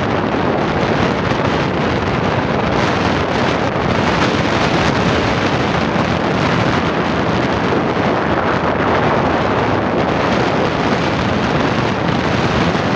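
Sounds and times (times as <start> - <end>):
road noise: 0.0 - 12.9
wind buffeting microphone: 0.0 - 12.9.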